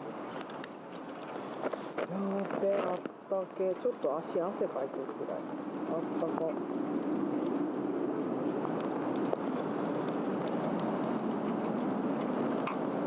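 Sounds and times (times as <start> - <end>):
faint fire crackles: 0.0 - 13.0
log fire burning with rushing flame: 0.0 - 13.0.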